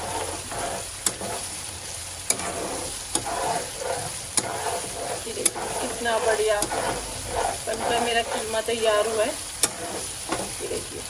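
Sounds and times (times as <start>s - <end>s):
spatula tapping pan: 0.0s - 1.5s, 2.2s - 10.8s
meat sizzling in oil: 0.0s - 11.0s
spatula scraping pan: 0.0s - 11.0s.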